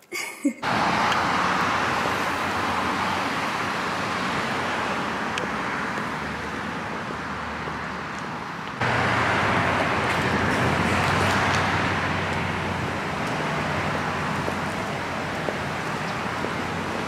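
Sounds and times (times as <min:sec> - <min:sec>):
low traffic hum: 0:00.0 - 0:17.0
passing vehicles rushing: 0:00.6 - 0:17.0.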